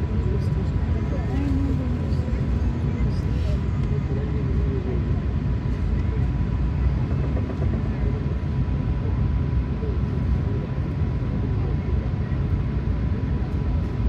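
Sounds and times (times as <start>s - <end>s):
aircraft cabin low rumble: 0.0s - 14.0s.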